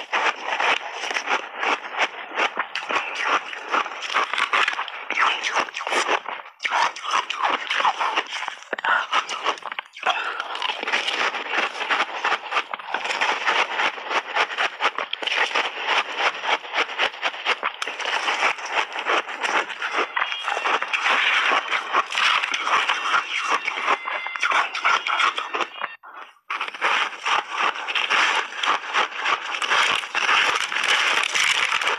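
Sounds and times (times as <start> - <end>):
crunching and chewing ice: 0.0 - 31.9.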